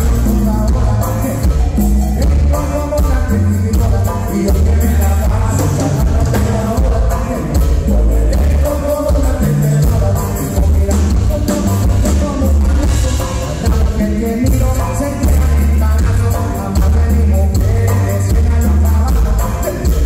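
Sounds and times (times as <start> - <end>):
bass guitar: 0.0 - 20.0
button accordion: 0.0 - 20.0
congas: 0.0 - 20.0
drums: 0.0 - 20.0
electric guitar: 0.0 - 20.0.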